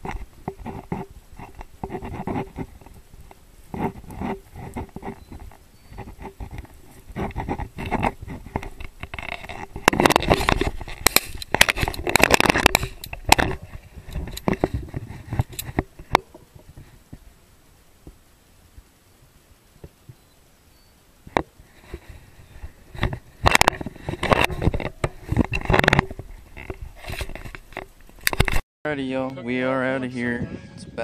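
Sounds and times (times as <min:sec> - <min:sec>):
dry grass rustling and crackling: 0:00.0 - 0:28.6.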